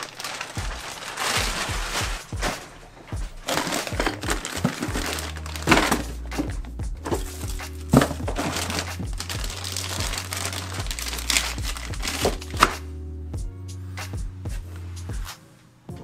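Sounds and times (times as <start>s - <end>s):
plastic bags crinkling: 0.0s - 12.8s
background music: 0.0s - 16.0s.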